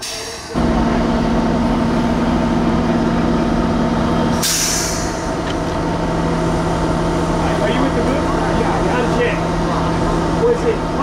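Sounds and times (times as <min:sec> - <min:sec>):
fire engine engine humming: 0:00.0 - 0:11.0.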